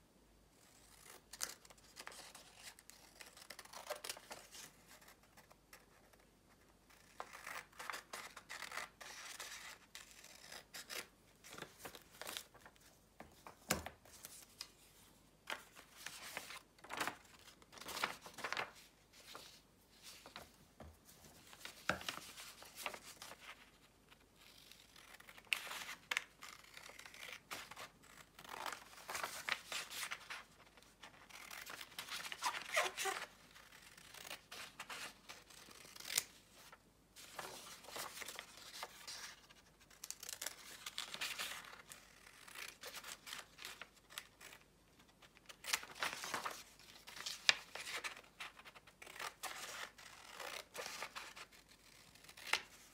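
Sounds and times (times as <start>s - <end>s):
paper rustling and crinkling: 7.2s - 44.6s, 45.2s - 52.9s.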